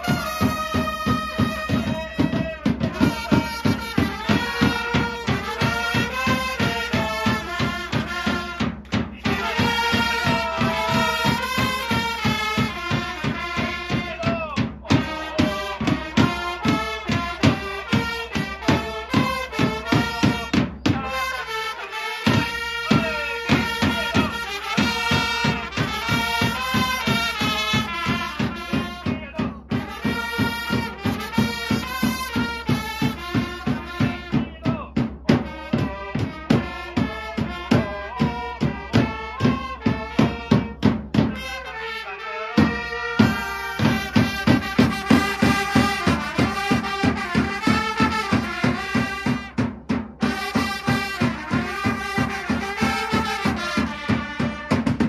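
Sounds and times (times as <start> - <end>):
crowd chanting: 0.0 - 49.4
steady drum beat: 0.0 - 55.0
trumpets playing a fanfare: 0.0 - 55.0.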